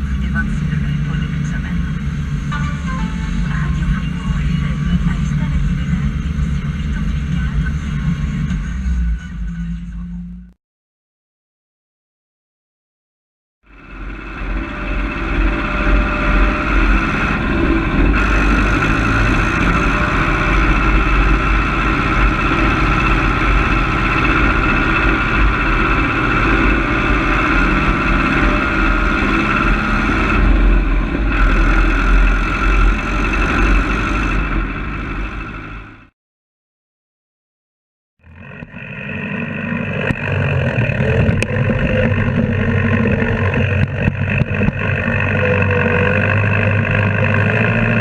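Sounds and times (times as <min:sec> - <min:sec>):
engine running with high whine: 0:00.0 - 0:10.6, 0:13.6 - 0:36.2, 0:38.2 - 0:48.0.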